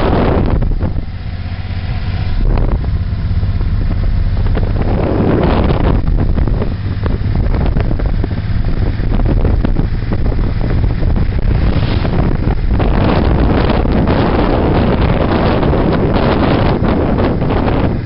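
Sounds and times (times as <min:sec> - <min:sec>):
motorcycle engine rumble: 0:00.0 - 0:18.0
wind buffeting microphone: 0:00.0 - 0:18.0.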